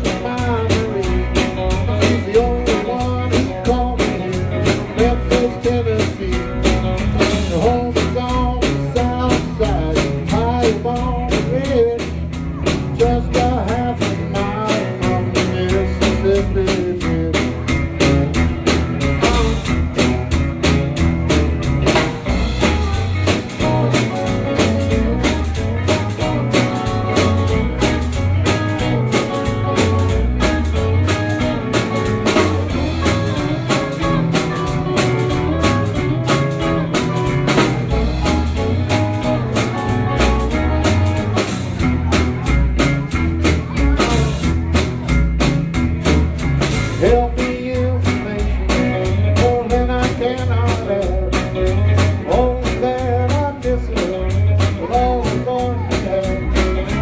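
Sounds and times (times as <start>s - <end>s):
drum kit steady beat: 0.0s - 57.0s
electric guitars: 0.0s - 57.0s.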